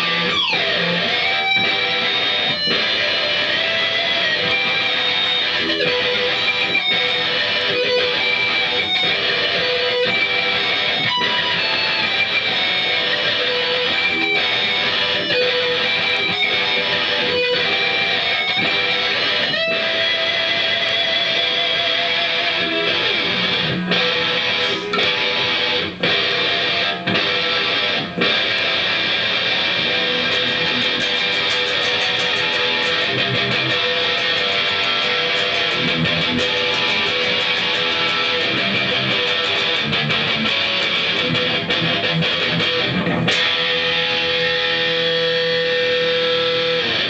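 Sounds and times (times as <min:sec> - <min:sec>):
electric guitar playing fast: 0:00.0 - 0:47.0.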